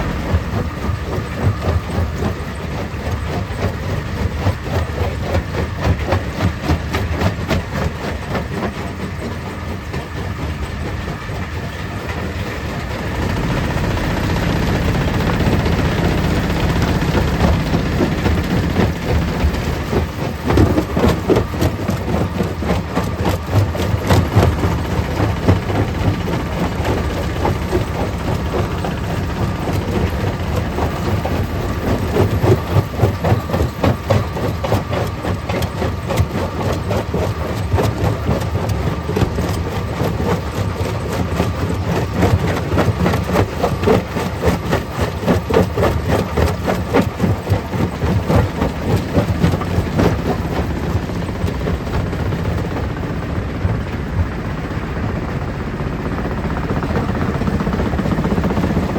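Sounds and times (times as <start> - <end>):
low engine drone: 0.0 - 58.9.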